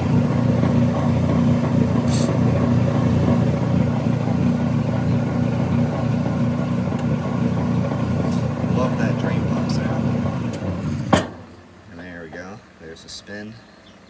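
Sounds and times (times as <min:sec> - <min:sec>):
washing machine drain pump humming: 0:00.0 - 0:12.5.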